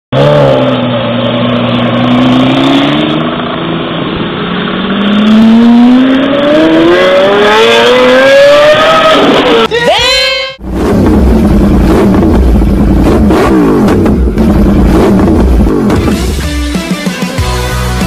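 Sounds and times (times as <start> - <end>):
car engine accelerating: 0.1 - 9.7, 10.6 - 16.4.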